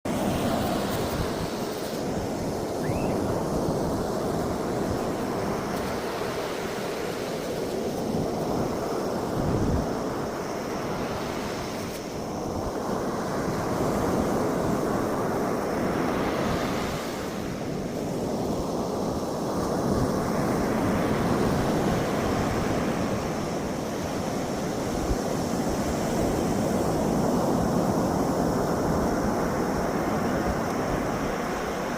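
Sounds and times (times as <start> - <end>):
sea waves washing onto shore: 0.1 - 31.9
wind buffeting microphone: 0.1 - 31.9.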